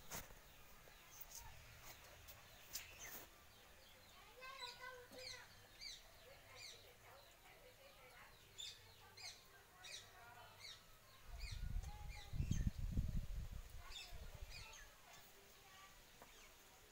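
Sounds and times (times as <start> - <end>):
faint bird chirping: 0.0 - 16.9.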